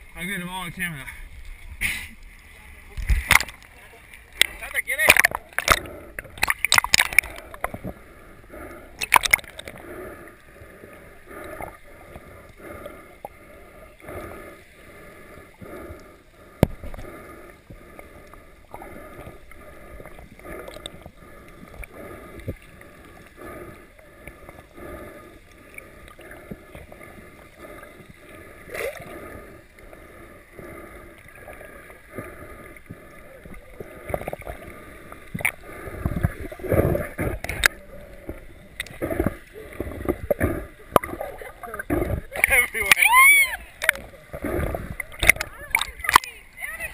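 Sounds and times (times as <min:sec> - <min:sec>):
water splashes: 0:00.0 - 0:46.9
muffled underwater gurgling: 0:02.6 - 0:46.9.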